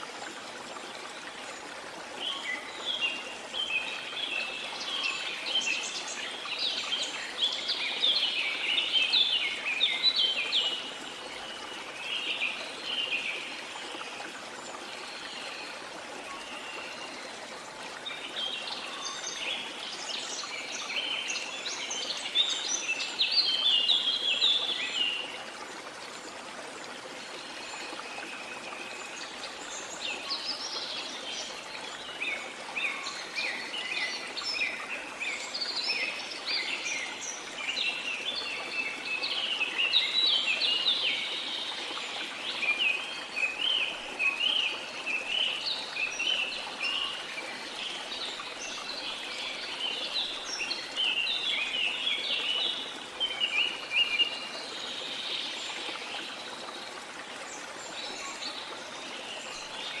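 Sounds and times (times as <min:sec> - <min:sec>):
flowing water rushing: 0:00.0 - 1:00.0.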